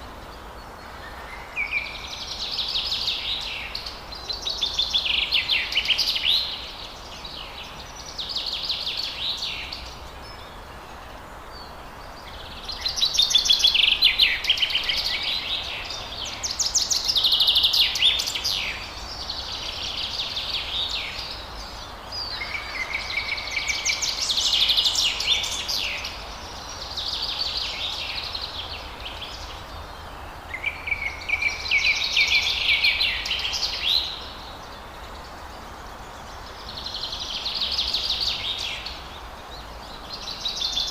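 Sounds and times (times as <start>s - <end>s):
background hiss: 0.0s - 40.9s
songbirds trilling: 0.0s - 40.9s.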